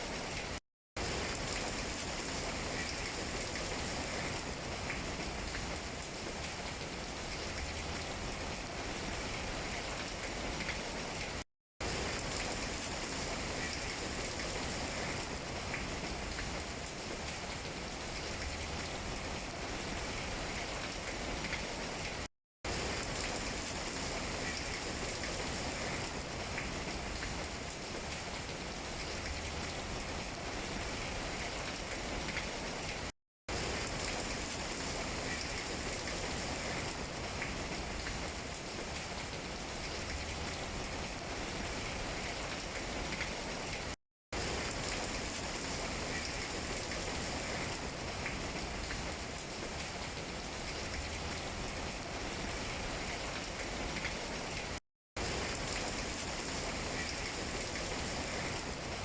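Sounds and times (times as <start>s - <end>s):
rain falling on leaves: 0.0s - 59.0s.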